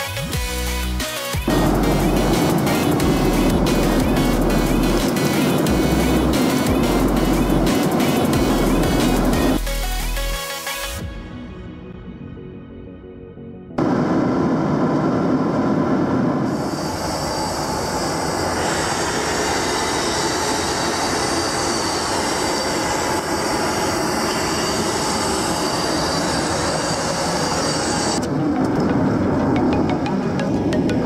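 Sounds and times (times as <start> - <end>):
airliner cabin engine roar: 1.4 - 10.5, 13.8 - 31.0.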